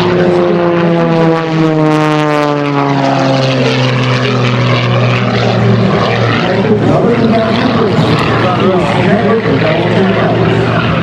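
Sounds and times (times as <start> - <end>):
propeller plane drone: 0.0 - 11.0.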